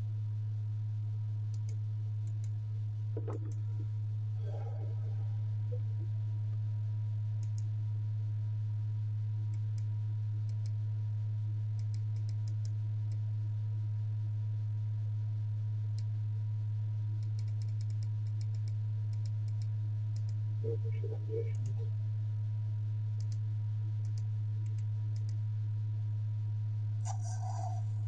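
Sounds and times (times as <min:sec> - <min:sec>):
projector electrical hum: 0:00.0 - 0:28.0.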